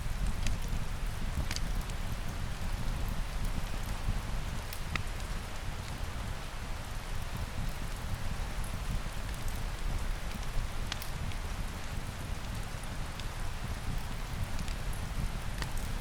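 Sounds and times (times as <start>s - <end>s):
fireplace crackles: 0.0s - 16.0s.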